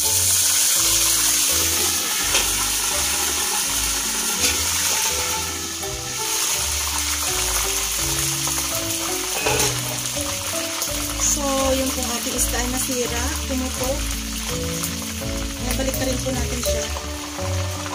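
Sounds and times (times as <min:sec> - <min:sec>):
background music: 0:00.0 - 0:17.9
fish sizzling in hot oil: 0:00.0 - 0:17.9.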